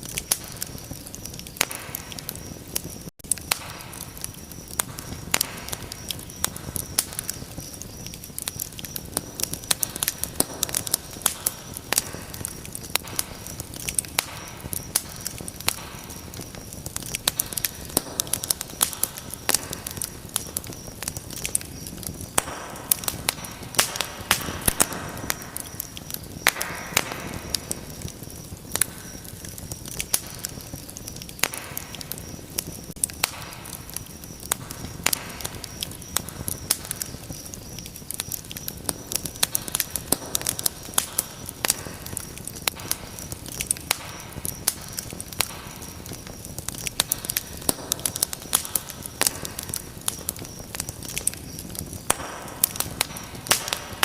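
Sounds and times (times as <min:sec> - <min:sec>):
soft hiss of flame: 0:00.0 - 0:54.0
wood fire crackling: 0:00.0 - 0:54.0.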